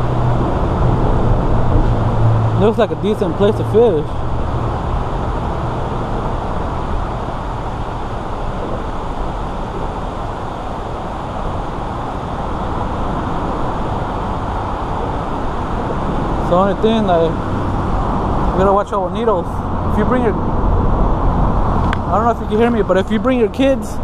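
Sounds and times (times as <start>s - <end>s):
low hum: 0.0s - 24.0s
traffic rumble and hiss: 0.0s - 24.0s.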